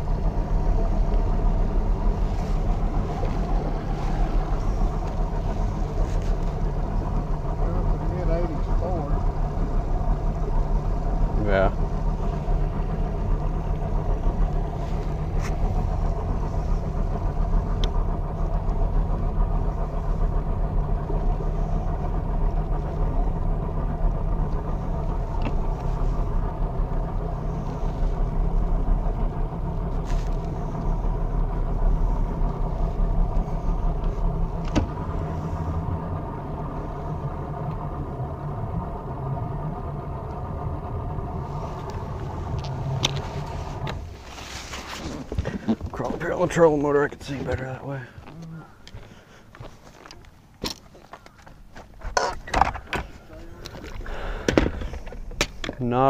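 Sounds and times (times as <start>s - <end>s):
outboard motor droning: 0.0s - 56.0s
wind and water on hull: 0.0s - 56.0s.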